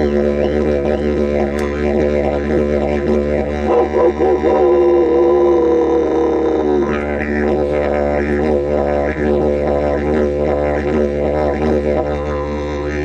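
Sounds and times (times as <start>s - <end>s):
didgeridoo drone: 0.0s - 13.0s.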